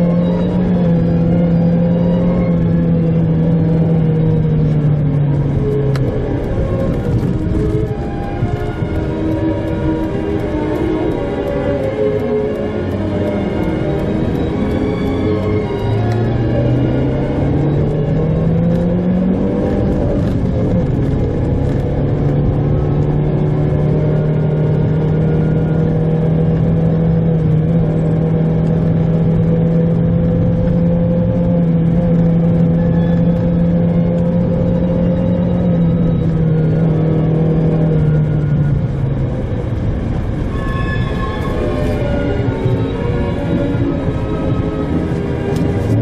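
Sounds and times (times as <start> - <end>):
car engine from inside cabin: 0.0 - 46.0.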